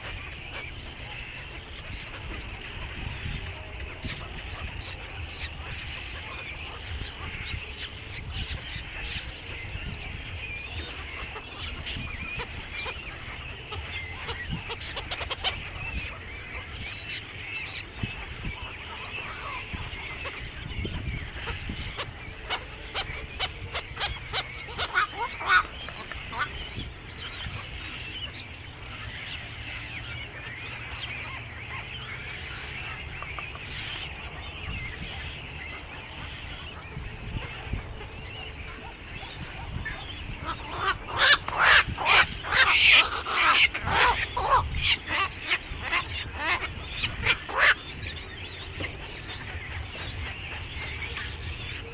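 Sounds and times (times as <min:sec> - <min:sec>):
birds chirping in chorus: 0:00.0 - 0:51.9
sharp bird calls and clicks: 0:00.0 - 0:51.9.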